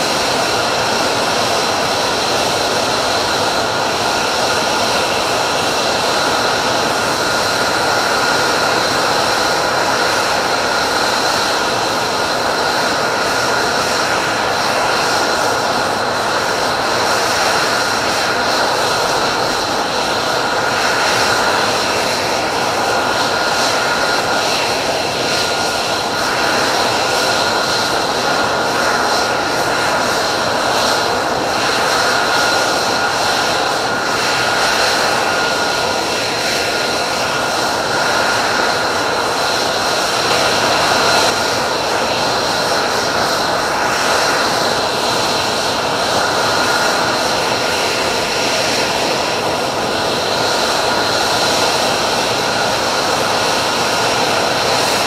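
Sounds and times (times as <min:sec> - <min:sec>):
jet engine running: 0:00.0 - 0:55.0.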